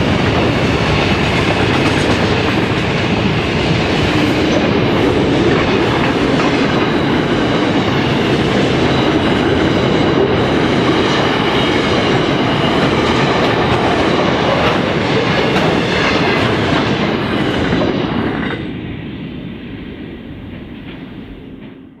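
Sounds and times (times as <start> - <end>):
freight train wagons rumbling on rails: 0.0 - 22.0.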